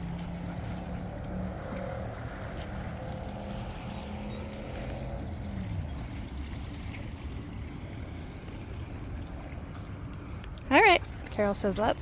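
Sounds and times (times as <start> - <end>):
engine passing by: 0.0 - 10.3
steady low rumble: 0.0 - 12.0.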